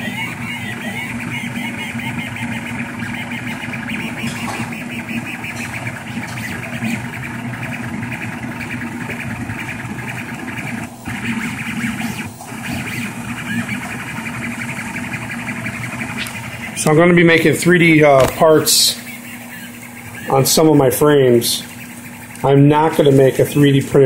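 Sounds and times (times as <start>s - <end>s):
cooling fans humming: 0.0s - 24.0s
stepper motors whining and chirping: 0.0s - 24.0s.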